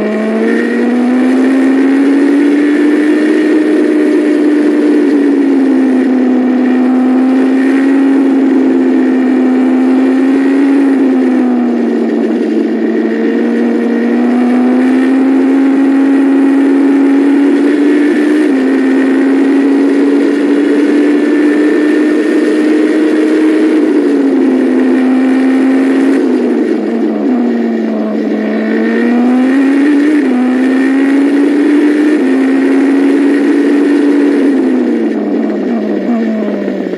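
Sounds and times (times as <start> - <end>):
race car engine at high revs: 0.0 - 36.9.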